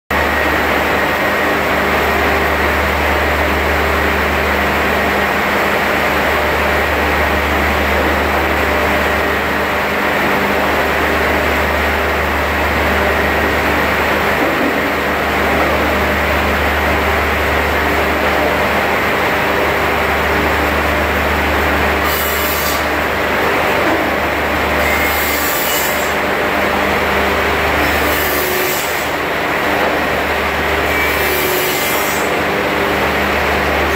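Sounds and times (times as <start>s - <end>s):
machinery motor hum: 0.1s - 31.0s.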